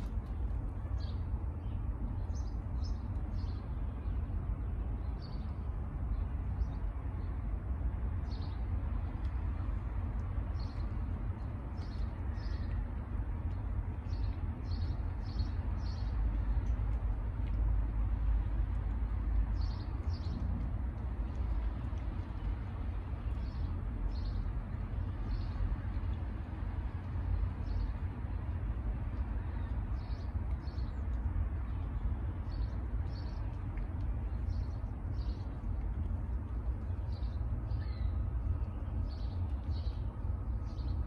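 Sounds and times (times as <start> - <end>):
small birds chirping: 0.0 - 7.5, 8.2 - 41.0
steady low rumble: 0.0 - 41.0.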